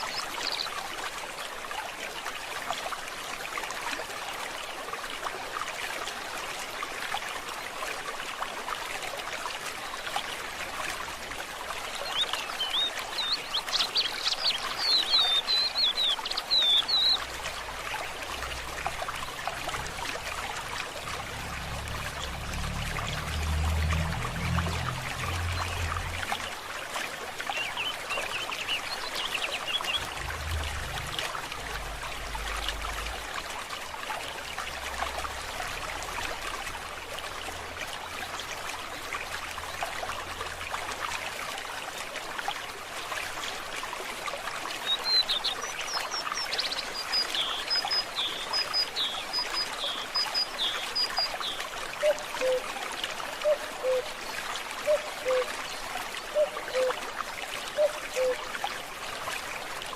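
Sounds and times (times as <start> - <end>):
stream trickling and burbling: 0.0 - 59.9.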